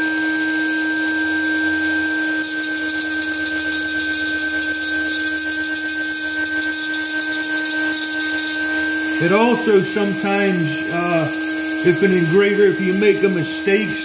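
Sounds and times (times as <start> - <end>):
rotary tool grinding metal: 0.0 - 14.0.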